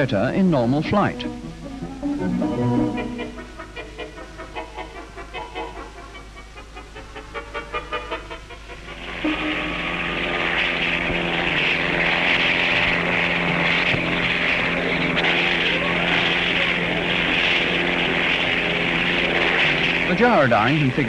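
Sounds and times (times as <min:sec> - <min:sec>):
low steady hum: 0:00.0 - 0:05.2, 0:08.9 - 0:21.0
helicopter jet roar: 0:00.0 - 0:21.0.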